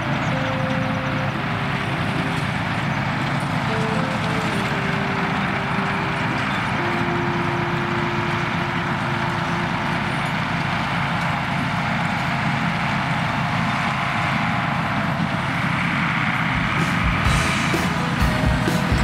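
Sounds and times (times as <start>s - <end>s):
hay mower engine running: 0.0s - 19.0s.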